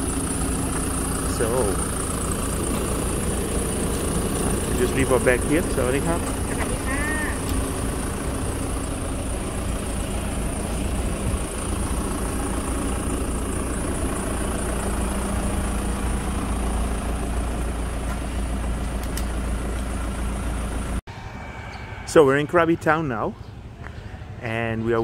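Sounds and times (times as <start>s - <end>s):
minivan engine idling: 0.0s - 21.0s.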